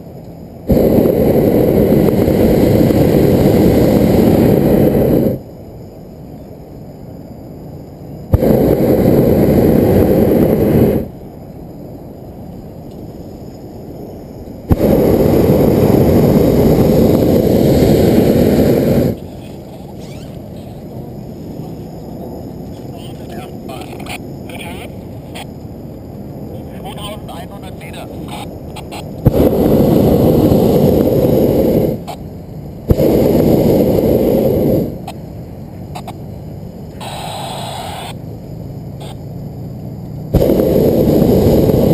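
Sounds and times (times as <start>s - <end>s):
propane burner roaring: 0.0s - 41.9s.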